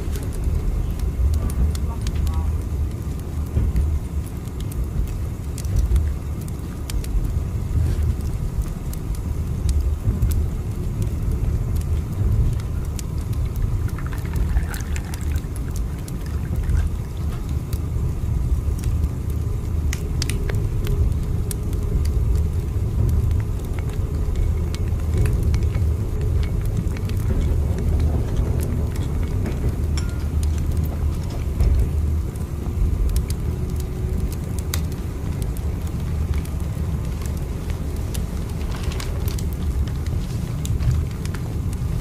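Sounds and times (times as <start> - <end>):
train rumbling: 0.0 - 6.5, 7.1 - 42.0.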